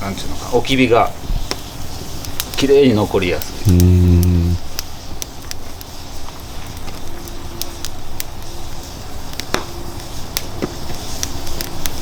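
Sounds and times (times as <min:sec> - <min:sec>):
campfire crackling and popping: 0:01.4 - 0:12.0.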